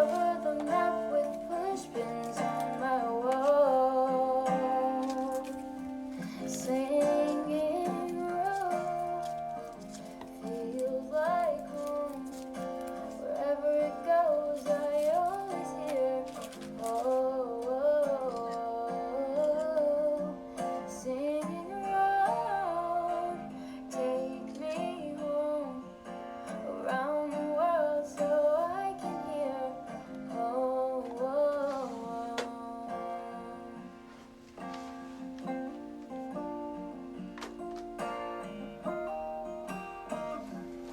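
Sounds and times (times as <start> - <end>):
acoustic guitar accompaniment: 0.0 - 40.9
wordless melody line: 0.0 - 40.9.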